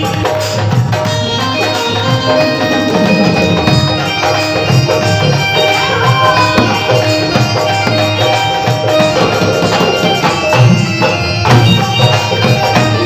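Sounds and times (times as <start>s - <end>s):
devotional song melody: 0.0s - 13.0s
tabla drum beat: 0.0s - 13.0s.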